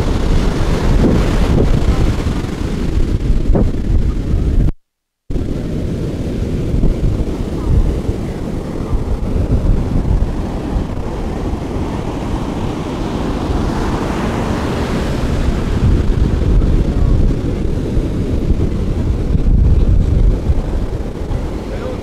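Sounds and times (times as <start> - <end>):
ocean surf breaking: 0.0 - 4.6, 5.3 - 22.0
wind rumbling on microphone: 0.0 - 22.0.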